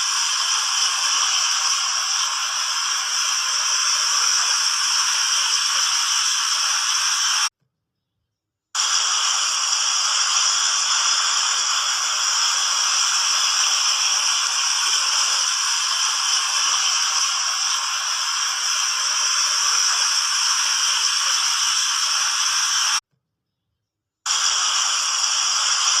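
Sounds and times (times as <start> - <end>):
fountain water splashing: 0.0 - 7.5, 8.8 - 23.0, 24.3 - 26.0.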